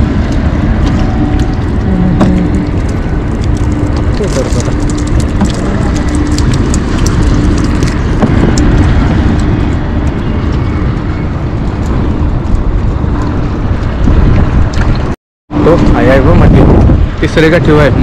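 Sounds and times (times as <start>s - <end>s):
boat motor rumbling: 0.0s - 18.0s
wind on microphone: 0.0s - 18.0s.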